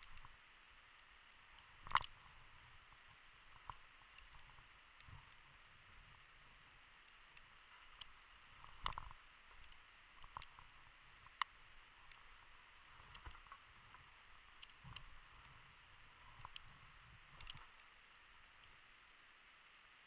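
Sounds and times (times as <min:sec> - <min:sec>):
faint clicks and knocks: 0:00.0 - 0:18.8.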